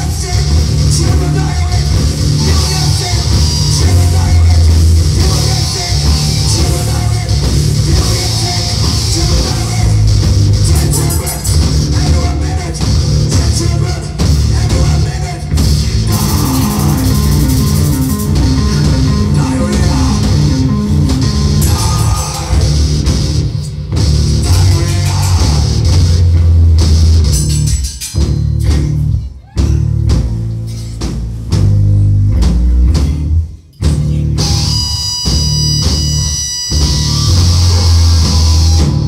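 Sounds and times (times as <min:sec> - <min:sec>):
drum kit: 0:00.0 - 0:39.0
rock band playing live: 0:00.0 - 0:39.0.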